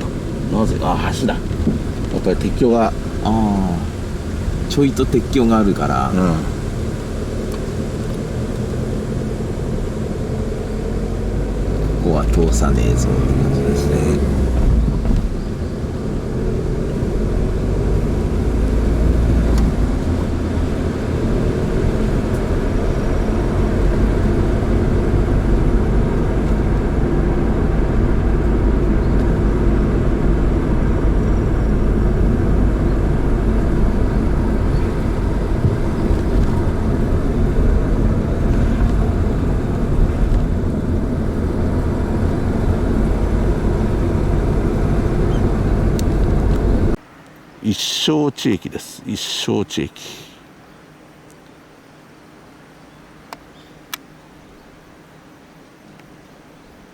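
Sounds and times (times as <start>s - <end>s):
car engine and tyre noise: 0.0s - 47.6s.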